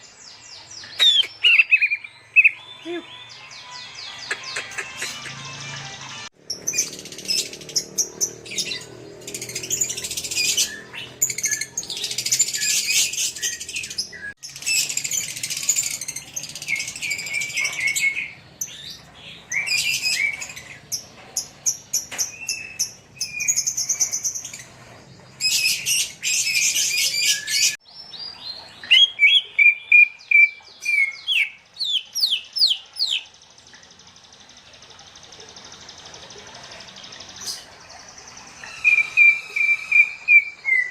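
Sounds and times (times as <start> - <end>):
songbirds trilling: 0.0 - 40.9.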